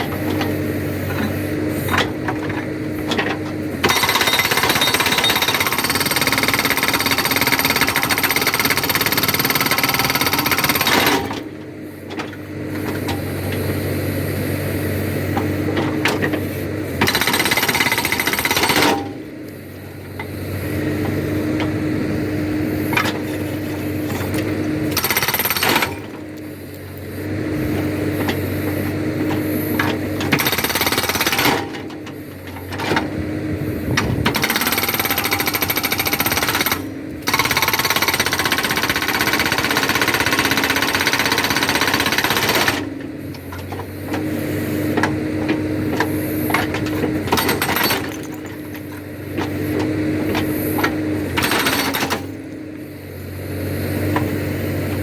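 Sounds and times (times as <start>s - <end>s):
hydraulic rock breaker hammering: 0.0s - 13.8s, 15.2s - 19.3s, 19.9s - 26.5s, 27.6s - 52.7s
backhoe engine humming: 0.0s - 55.0s.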